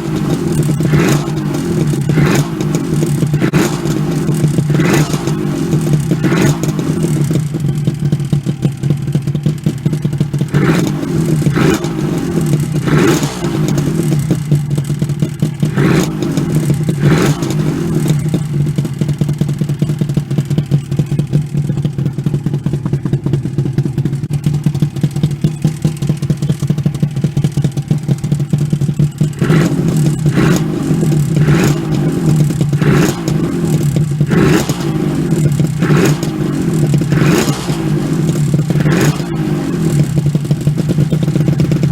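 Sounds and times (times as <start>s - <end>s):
engine throttle blips: 0.0s - 41.9s
motorcycle engine idling: 0.0s - 41.9s.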